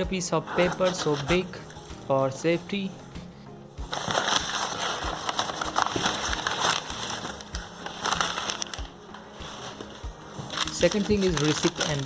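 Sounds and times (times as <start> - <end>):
packing paper rustling and crinkling: 0.0 - 2.7, 3.8 - 12.0.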